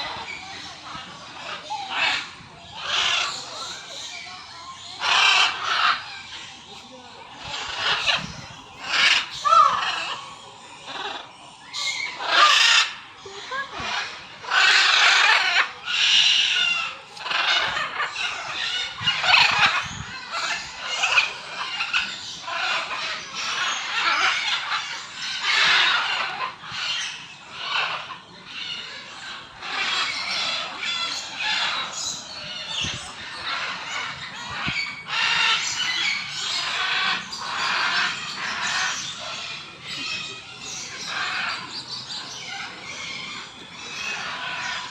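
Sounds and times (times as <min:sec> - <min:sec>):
flock of birds squawking: 0:00.0 - 0:44.9.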